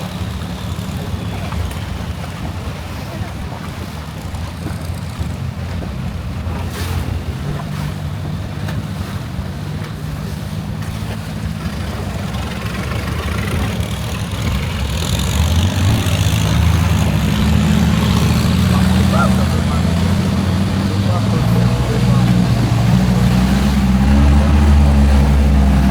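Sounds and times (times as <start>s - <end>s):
boat engine droning: 0.0s - 25.9s.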